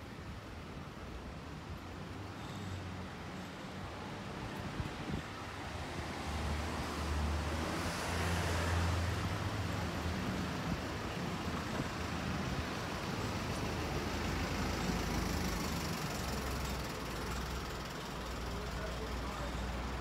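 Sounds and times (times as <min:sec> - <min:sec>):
steady street noise: 0:00.0 - 0:20.0
vehicles passing: 0:00.1 - 0:20.0.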